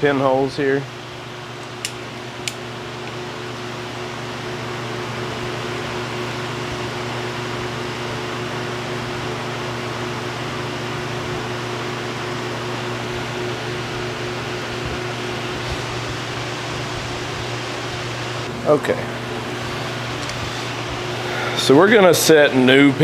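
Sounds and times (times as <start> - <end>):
shop equipment humming: 0.0 - 23.0.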